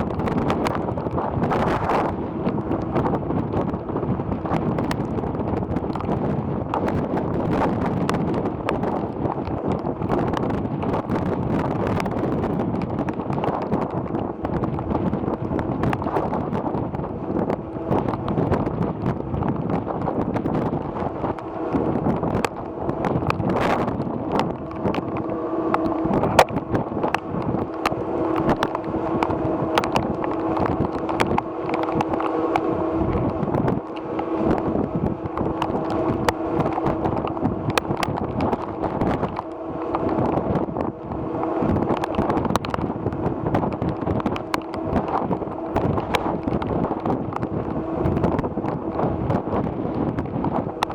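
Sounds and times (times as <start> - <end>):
ferry engines droning: 0.0 - 50.9
low held hum: 0.0 - 50.9
wind buffeting microphone: 0.0 - 50.9.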